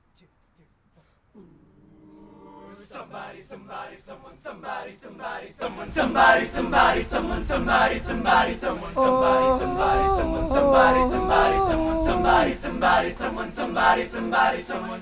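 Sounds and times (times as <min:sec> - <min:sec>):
male a cappella group singing: 0:01.4 - 0:15.0.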